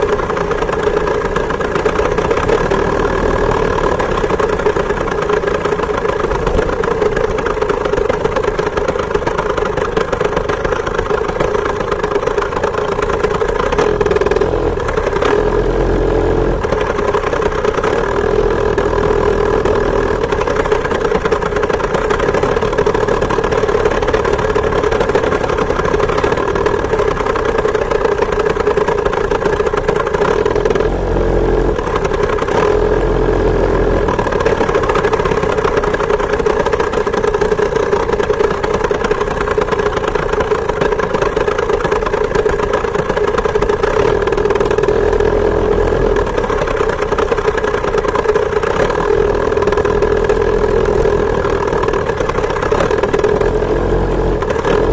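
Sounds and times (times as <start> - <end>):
two-stroke moped engine running: 0.0 - 54.9.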